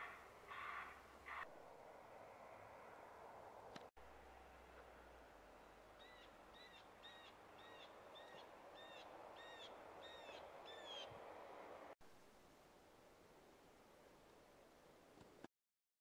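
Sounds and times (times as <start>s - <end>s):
steady outdoor hiss: 0.0s - 15.5s.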